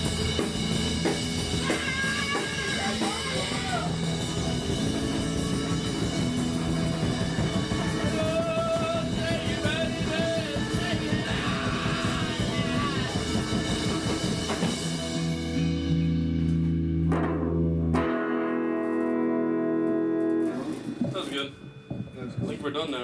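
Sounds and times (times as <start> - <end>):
drum kit beat: 0.0 - 18.3, 19.9 - 23.0
rock band playing: 0.0 - 23.0.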